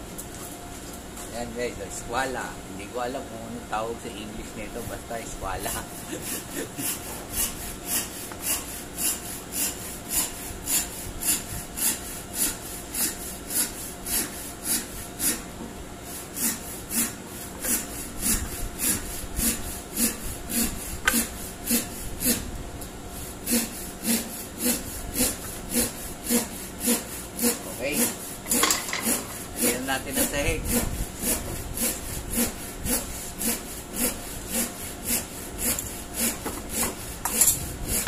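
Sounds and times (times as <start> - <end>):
rasping on wood: 5.6 - 15.4, 16.1 - 22.5, 23.4 - 38.0.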